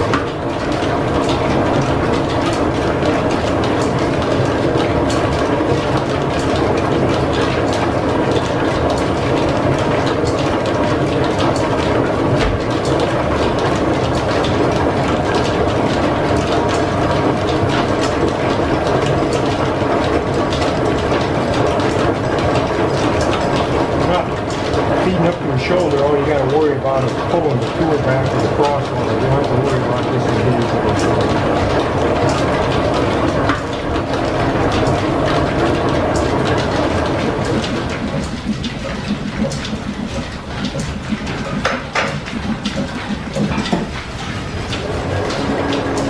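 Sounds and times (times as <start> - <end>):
metal lathe gears clattering: 0.0 - 46.0.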